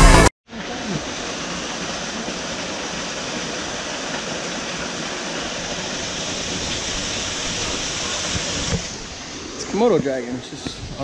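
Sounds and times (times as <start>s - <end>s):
waterfall splashing on rocks: 0.5s - 10.7s.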